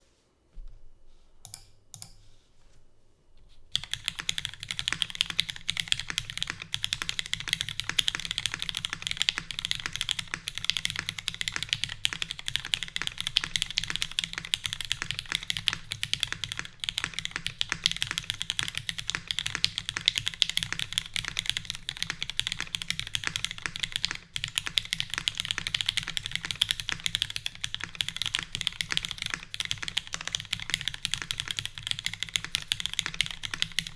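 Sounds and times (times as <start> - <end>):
mechanical keyboard typing: 3.8 - 33.9.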